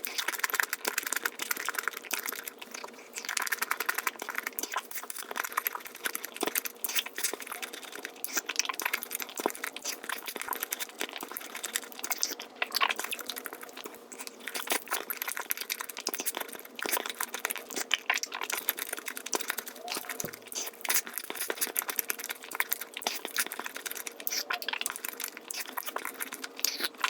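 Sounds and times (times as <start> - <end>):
sped-up chewing clicks: 0.0 - 27.0.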